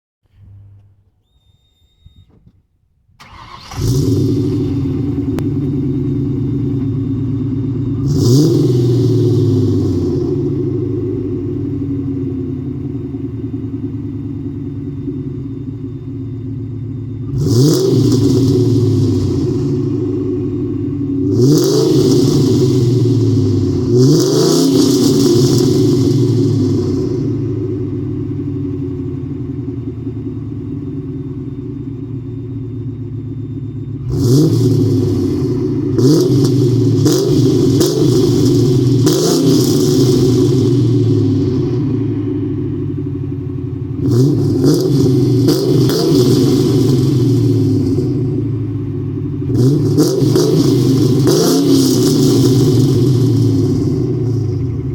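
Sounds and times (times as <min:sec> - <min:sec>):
car engine idling and revving: 0:00.2 - 0:02.4, 0:03.1 - 0:54.9.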